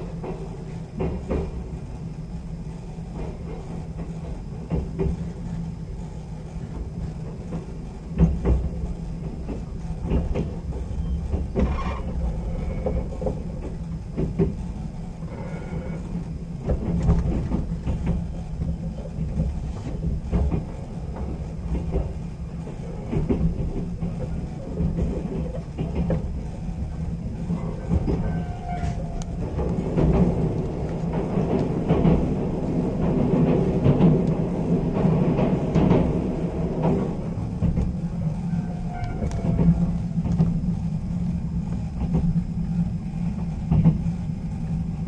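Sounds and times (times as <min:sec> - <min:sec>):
train low rumble: 0:00.0 - 0:45.0
wheels clacking over rail joints: 0:06.6 - 0:45.0.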